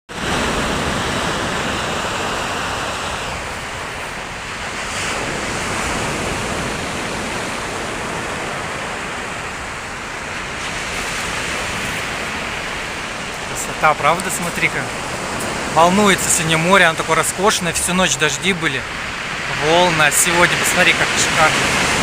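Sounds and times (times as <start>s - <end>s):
sea surf washing onto shore: 0.1s - 22.0s.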